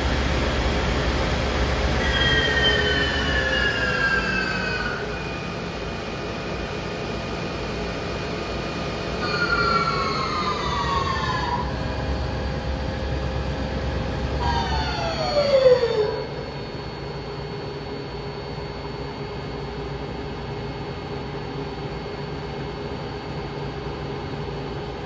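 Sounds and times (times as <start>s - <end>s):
lathe spindle whine and hum: 0.0s - 25.0s.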